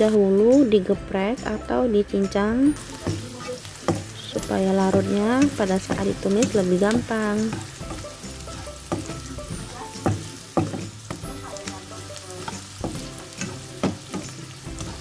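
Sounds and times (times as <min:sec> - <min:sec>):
onion and garlic sizzling: 0:00.0 - 0:15.0
spatula scraping and tapping pan: 0:02.8 - 0:15.0.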